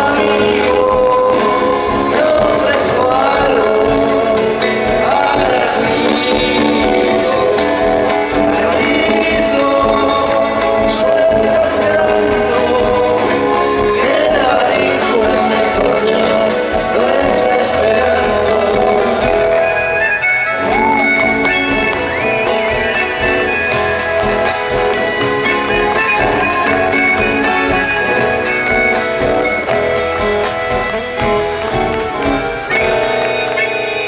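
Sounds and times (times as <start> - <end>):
acoustic guitars: 0.0 - 34.0
harmonica melody: 0.0 - 34.0.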